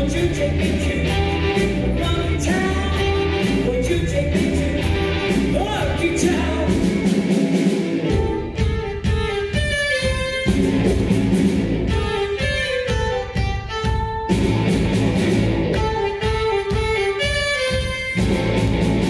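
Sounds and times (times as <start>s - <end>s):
bass guitar: 0.0s - 19.0s
drums with steady beat: 0.0s - 19.0s
electric guitars: 0.0s - 19.0s.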